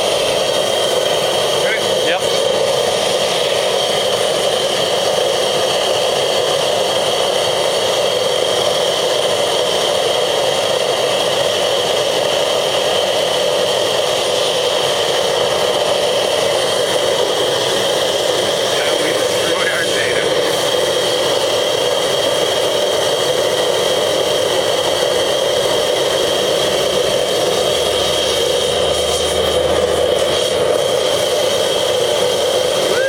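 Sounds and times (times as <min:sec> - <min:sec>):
gas burner roaring: 0:00.0 - 0:33.0.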